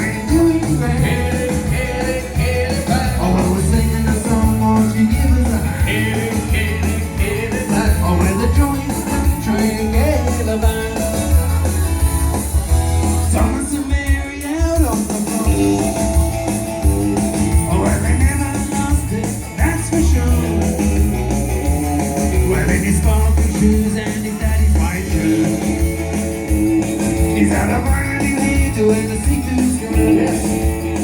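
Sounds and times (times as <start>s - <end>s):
person singing: 0.0s - 16.4s, 17.0s - 31.0s
country band playing live: 0.0s - 31.0s.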